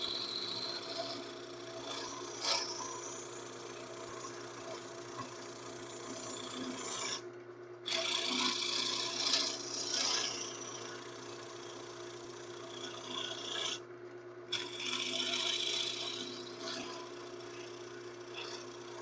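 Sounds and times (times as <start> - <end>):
tool scraping spinning wood: 0.0 - 7.3, 7.9 - 13.8, 14.5 - 19.0
wood lathe motor hum: 0.0 - 7.3, 7.9 - 13.8, 14.5 - 19.0.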